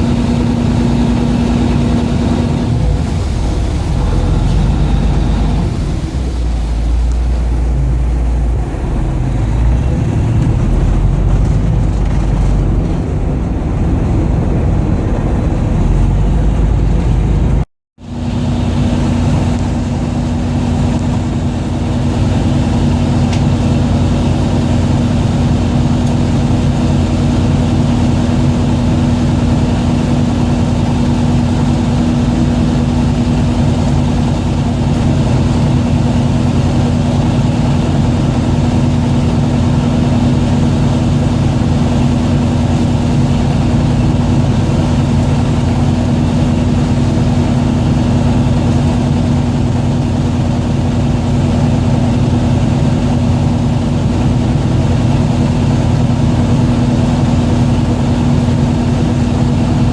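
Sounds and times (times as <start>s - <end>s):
boat engine droning: 0.0s - 59.9s
steady low hum: 0.0s - 59.9s.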